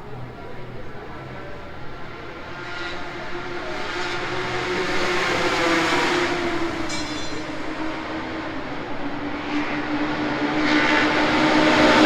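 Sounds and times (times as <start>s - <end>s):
racing motorcycle passing by: 0.0s - 12.0s.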